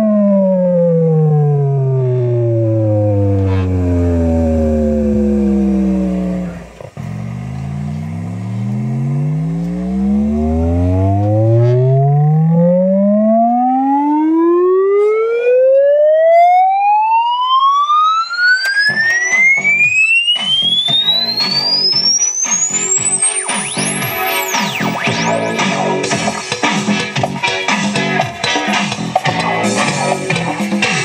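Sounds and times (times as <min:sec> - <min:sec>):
test tone frequency sweep: 0:00.0 - 0:26.4.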